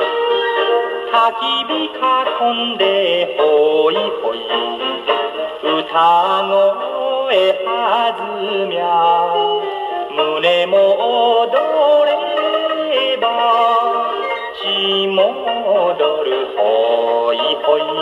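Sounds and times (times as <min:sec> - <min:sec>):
gramophone record music: 0:00.0 - 0:18.0.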